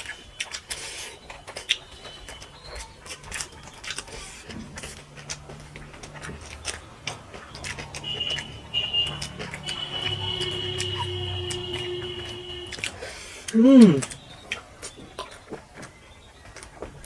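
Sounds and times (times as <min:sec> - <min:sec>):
chewing and mouth noises: 0:00.0 - 0:17.0.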